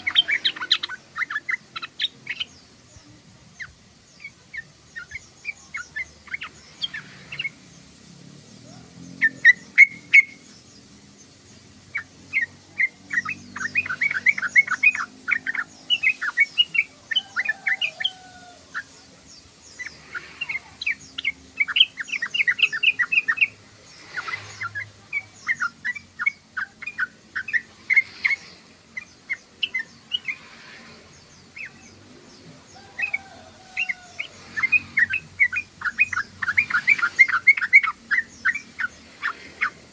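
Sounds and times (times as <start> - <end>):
bird chattering: 0.0 - 7.6, 9.1 - 10.6, 11.9 - 32.0, 32.8 - 39.9.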